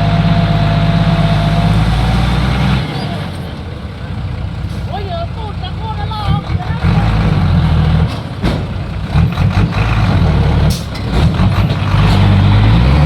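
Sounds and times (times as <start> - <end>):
dump truck diesel engine revving: 0.0 - 13.0.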